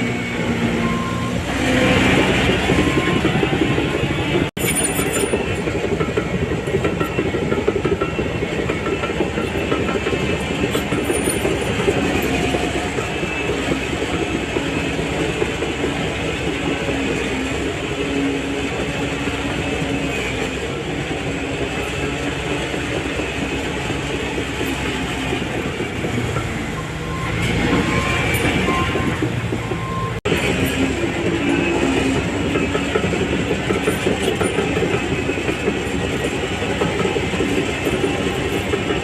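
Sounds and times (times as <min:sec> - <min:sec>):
diesel engine under load: 0:00.0 - 0:39.0
steel tracks clanking: 0:00.0 - 0:39.0.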